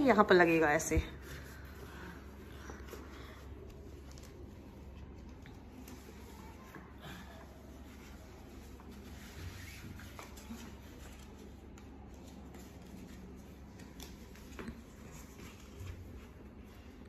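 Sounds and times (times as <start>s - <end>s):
fabric rustling: 0.0s - 17.0s.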